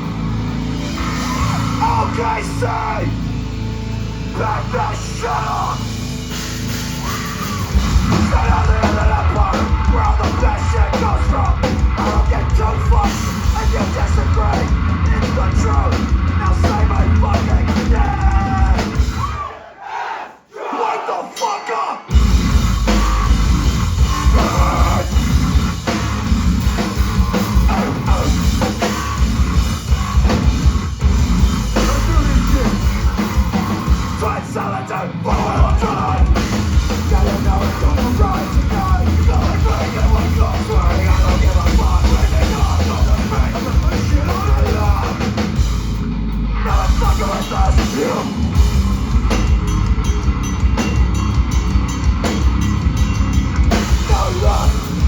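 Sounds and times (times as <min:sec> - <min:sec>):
live rock band playing: 0:00.0 - 0:19.4, 0:22.1 - 0:55.0
heavy bass: 0:00.0 - 0:19.5, 0:22.1 - 0:55.0
pounding drum kit: 0:00.0 - 0:19.6, 0:22.1 - 0:55.0.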